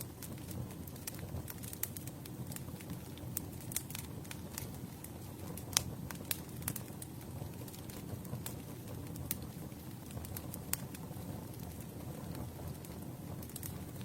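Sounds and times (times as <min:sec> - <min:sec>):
burning wood crackling and popping: 0:00.0 - 0:14.0
low rumble of flames: 0:00.0 - 0:14.0.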